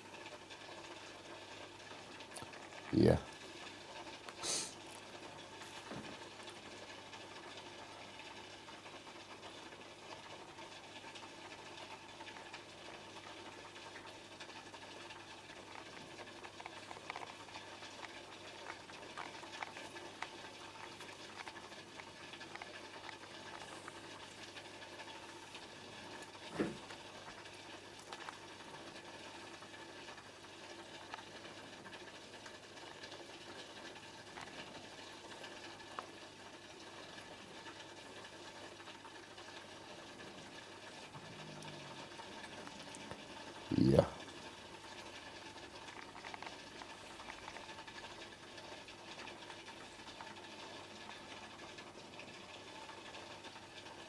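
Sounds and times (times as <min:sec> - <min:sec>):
air bubbles fizzing: 0:00.0 - 0:54.0.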